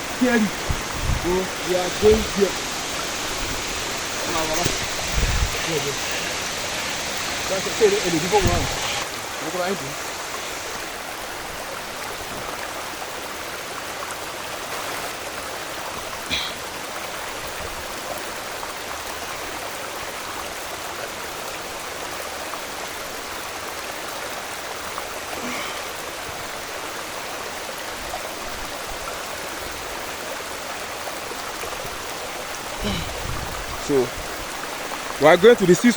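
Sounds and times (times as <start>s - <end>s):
waterfall stream rushing: 0.0s - 35.9s.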